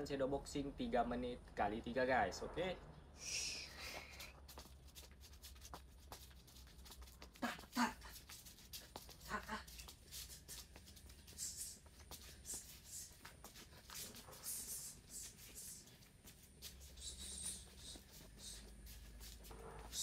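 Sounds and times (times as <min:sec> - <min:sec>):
footwork scuffs and clicks: 0:03.7 - 0:20.0.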